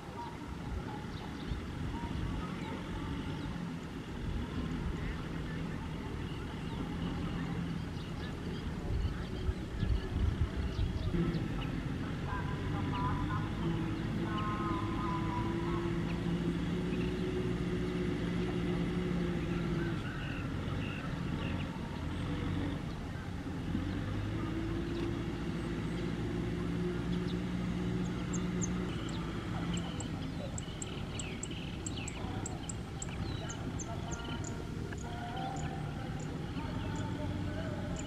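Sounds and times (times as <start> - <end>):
small birds chirping: 0.0 - 38.0
tractor diesel engine running: 0.0 - 38.0.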